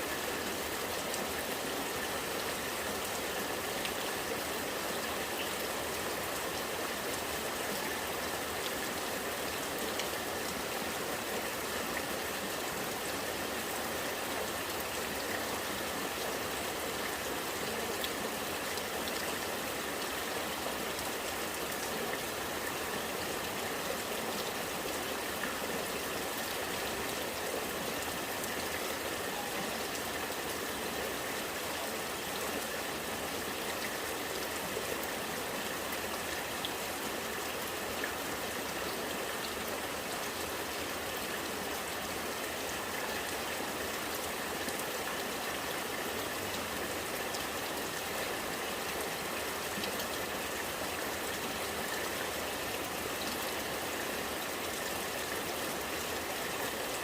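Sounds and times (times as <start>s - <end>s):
rainwater running and gurgling: 0.0s - 57.0s.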